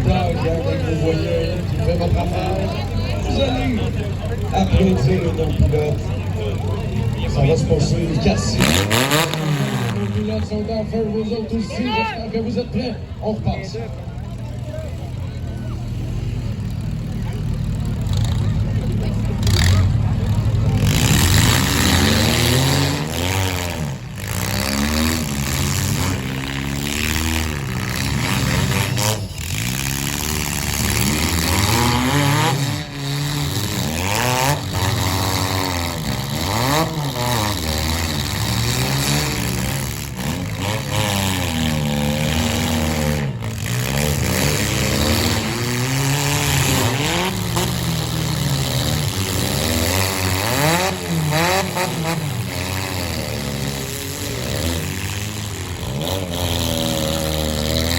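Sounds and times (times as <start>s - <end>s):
car engines revving: 0.0s - 57.9s.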